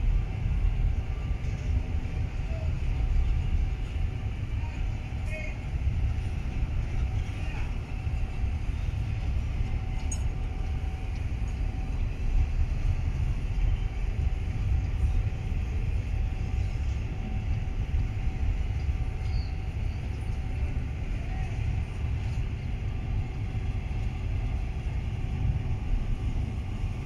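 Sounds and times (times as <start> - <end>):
faint steady hum: 0.0 - 27.0
train wheels rumbling on rail: 0.0 - 27.0.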